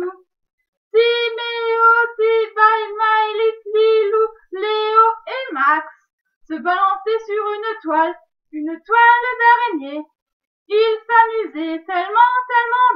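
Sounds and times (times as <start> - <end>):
woman singing: 0.0 - 0.2, 0.9 - 12.9.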